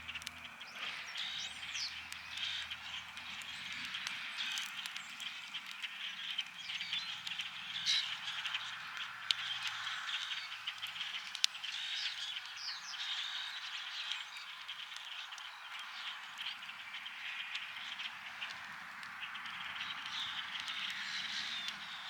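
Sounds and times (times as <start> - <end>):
campfire crackling: 0.0 - 22.0
frogs trilling: 0.0 - 22.0.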